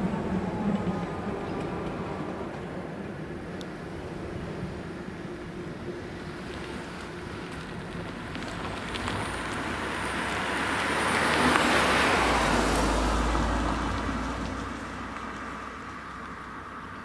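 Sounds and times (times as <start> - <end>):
car passing by: 0.0 - 17.0.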